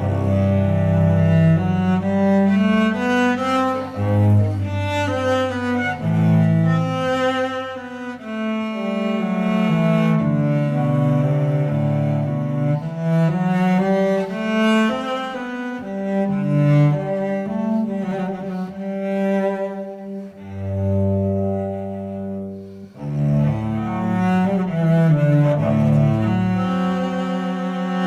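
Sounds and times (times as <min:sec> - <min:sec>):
low bowed strings melody: 0:00.0 - 0:28.0.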